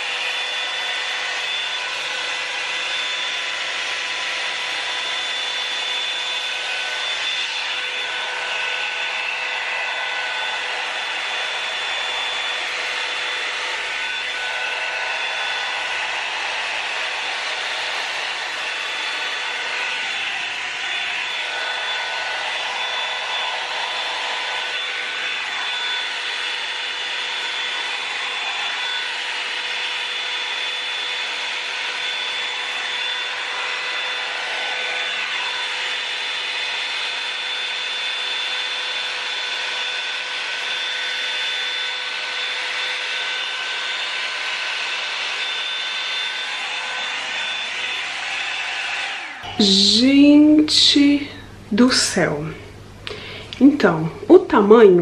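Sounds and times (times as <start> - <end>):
dryer brush motor whine: 0.0 - 55.0.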